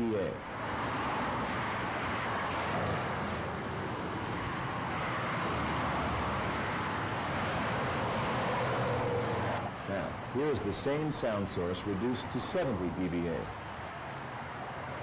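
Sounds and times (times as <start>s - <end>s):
highway traffic: 0.0s - 15.0s.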